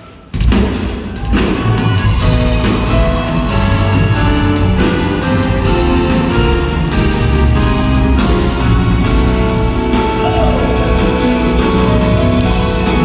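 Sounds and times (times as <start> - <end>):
live band playing a ballad: 1.3 - 13.0.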